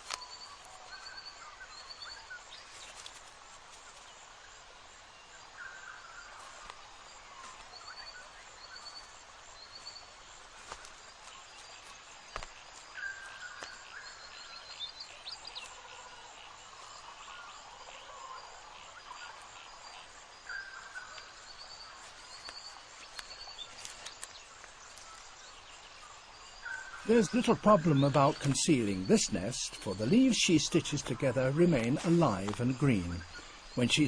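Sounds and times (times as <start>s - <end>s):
insects hissing: 0.0s - 34.0s.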